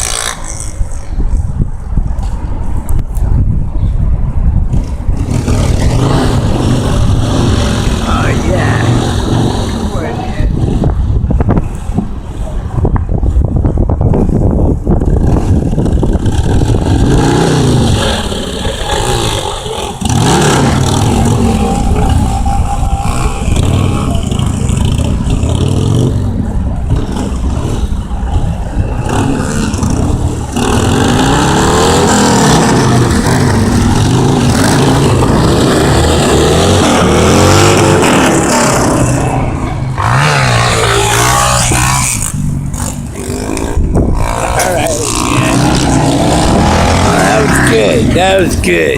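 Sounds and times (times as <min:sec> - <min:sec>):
motorcycle engine revving: 0:04.8 - 0:11.1, 0:14.9 - 0:48.9.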